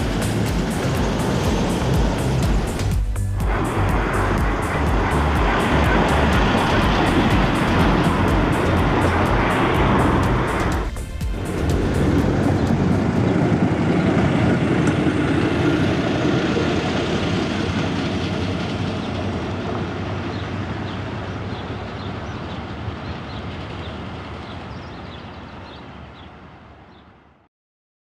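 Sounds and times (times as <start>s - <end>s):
rail truck rumbling on track: 0.0s - 27.0s.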